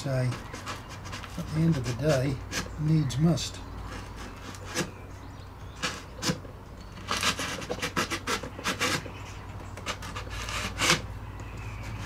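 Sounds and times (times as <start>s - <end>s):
hand tool scraping wood: 0.0s - 5.0s, 5.7s - 12.0s.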